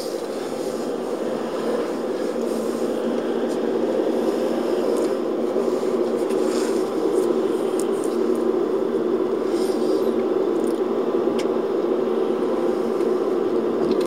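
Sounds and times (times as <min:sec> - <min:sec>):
car cabin engine and tyre hum: 0:00.0 - 0:14.0.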